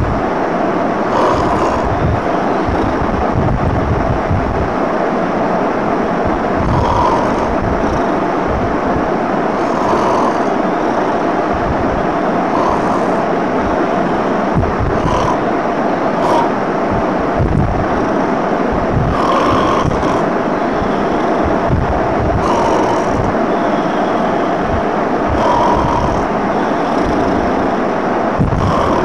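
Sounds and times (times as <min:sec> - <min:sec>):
loud rushing noise: 0:00.0 - 0:29.0.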